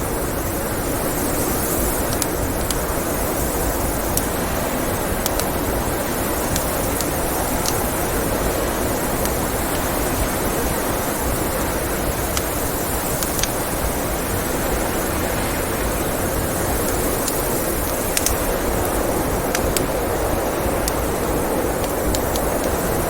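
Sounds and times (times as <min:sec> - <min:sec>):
blizzard wind rushing: 0:00.0 - 0:23.0
wood fire crackling: 0:00.0 - 0:23.0.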